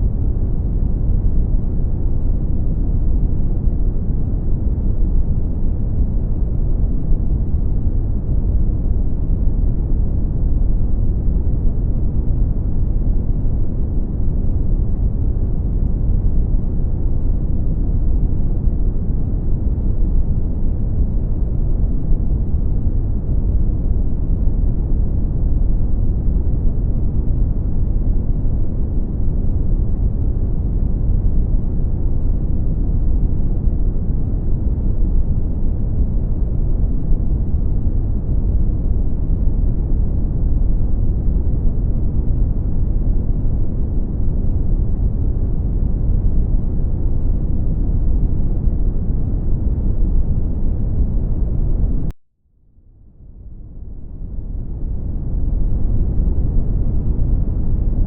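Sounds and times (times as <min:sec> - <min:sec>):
deep rushing brown noise: 0:00.0 - 0:52.1, 0:54.1 - 0:58.0.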